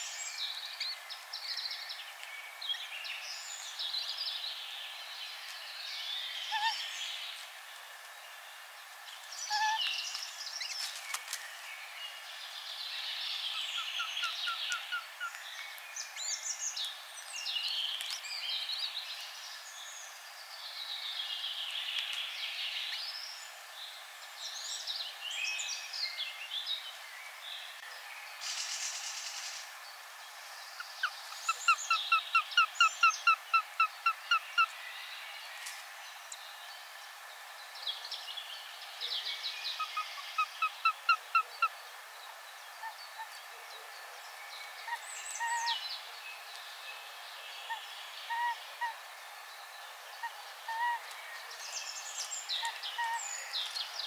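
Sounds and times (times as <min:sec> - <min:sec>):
birds singing: 0:00.0 - 0:54.0.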